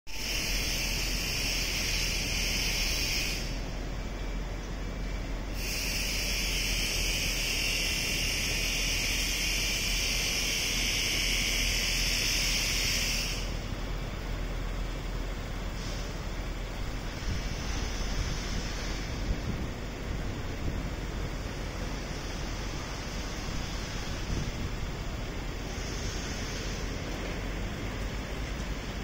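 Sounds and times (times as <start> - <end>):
cicadas buzzing: 0.1 - 4.5, 5.4 - 14.9, 15.7 - 29.0
low city rumble: 0.1 - 29.0.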